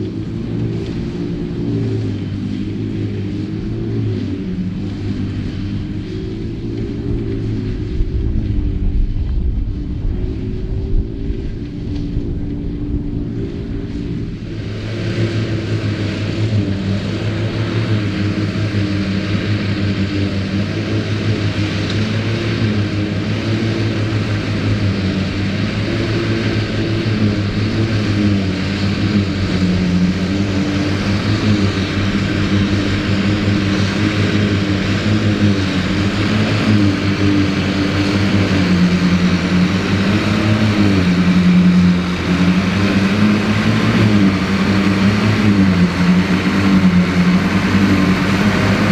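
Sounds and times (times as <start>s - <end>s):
forage harvester chopping and blowing: 0.0s - 48.9s
tractor diesel engine under load: 0.0s - 48.9s.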